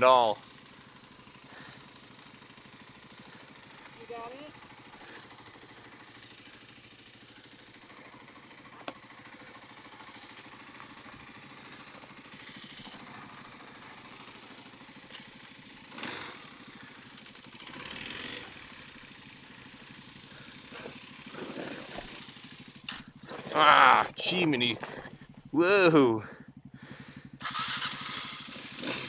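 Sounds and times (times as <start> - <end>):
dirt bike engine idling: 0.0 - 29.0.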